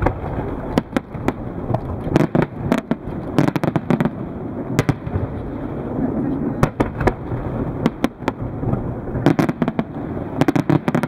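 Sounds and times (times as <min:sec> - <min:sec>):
continuous low rumble: 0:00.0 - 0:11.0
fireworks bangs and cracks: 0:00.0 - 0:11.0.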